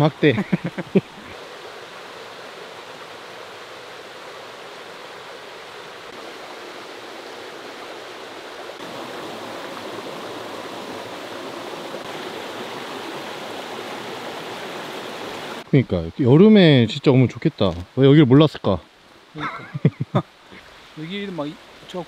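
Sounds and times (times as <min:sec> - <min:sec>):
stream rushing over stones: 0:00.0 - 0:22.0.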